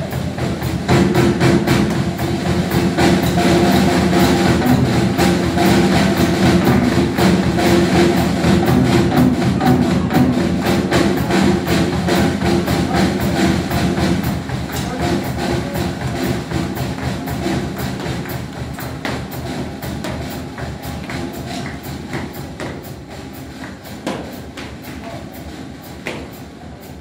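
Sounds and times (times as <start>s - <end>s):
drum kit beat: 0.0s - 27.0s
live jive band music: 0.0s - 27.0s.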